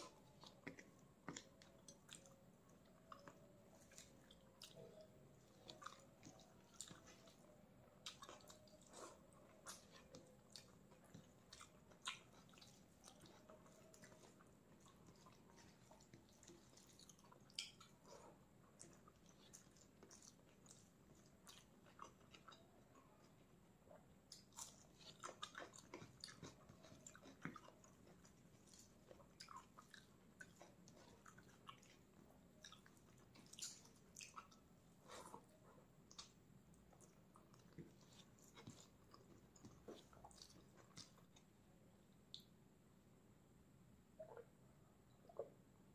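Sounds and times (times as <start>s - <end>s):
chewing and biting food: 0.0s - 41.5s.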